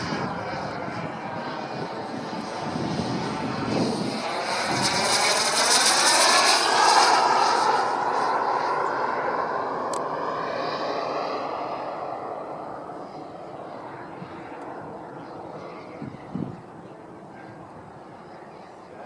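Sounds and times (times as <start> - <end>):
model jet flying past: 0.0 - 19.0.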